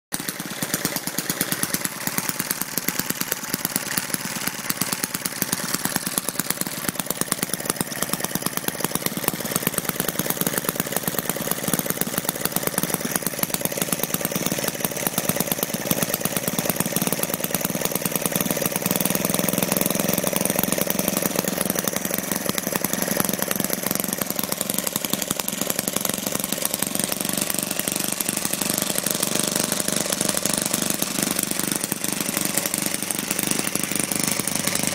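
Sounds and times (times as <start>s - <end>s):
small model engine running: 0.2s - 34.9s.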